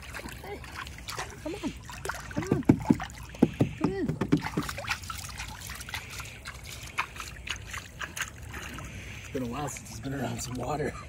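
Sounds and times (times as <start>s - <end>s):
water sloshing in plastic pool: 0.0s - 11.0s.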